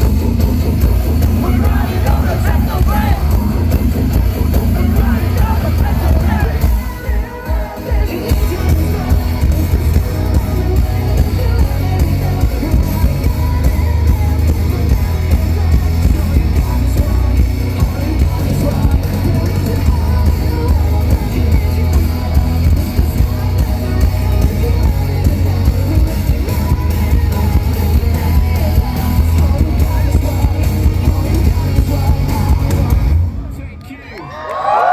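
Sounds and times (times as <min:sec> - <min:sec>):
heavy pulsing bass beat: 0:00.0 - 0:33.2
live metalcore band: 0:00.0 - 0:33.6
sung and shouted vocals: 0:00.0 - 0:34.9.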